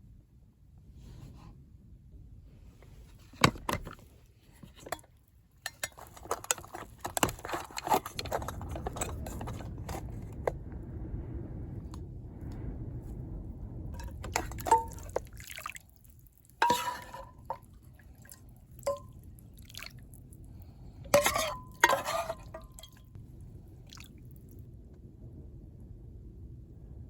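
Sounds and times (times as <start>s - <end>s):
low steady rumble: 0.0s - 27.0s.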